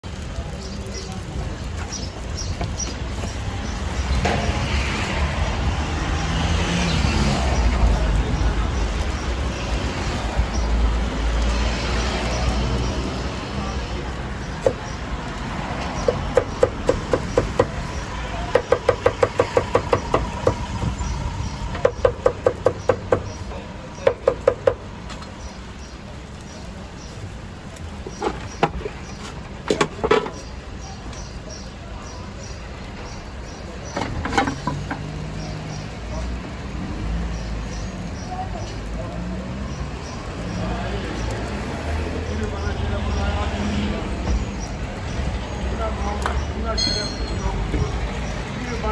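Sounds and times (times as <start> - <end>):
road traffic rumbling: 0.0 - 48.9.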